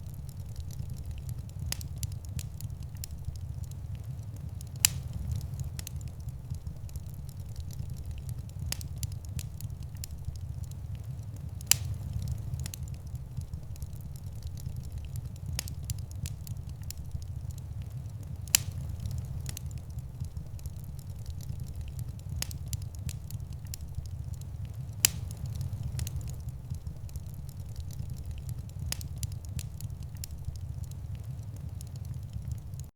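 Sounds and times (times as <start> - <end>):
sharp pops from fire: 0.0 - 32.9
wood fire crackling: 0.0 - 32.9.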